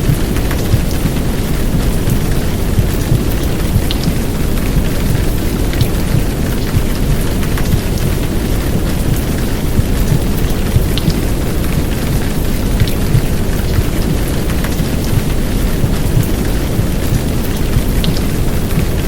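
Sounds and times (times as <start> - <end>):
heavy rain downpour: 0.0 - 19.0
raindrops ticking: 0.0 - 19.0.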